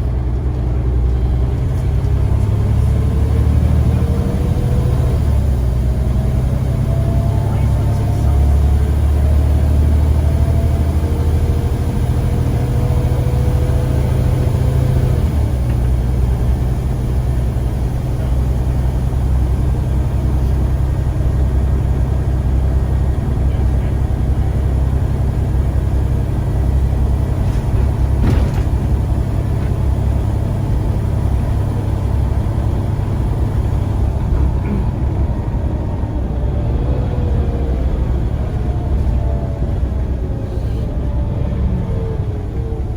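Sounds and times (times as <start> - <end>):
bus engine rumbling: 0.0 - 42.9.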